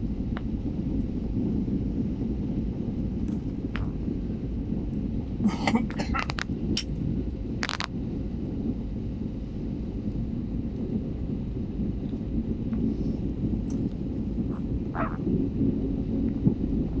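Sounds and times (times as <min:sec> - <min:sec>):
airliner landing rumble: 0:00.0 - 0:17.0.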